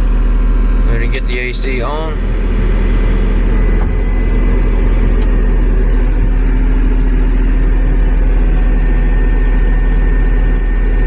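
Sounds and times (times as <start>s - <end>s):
skid steer diesel engine idling: 0.0s - 11.0s.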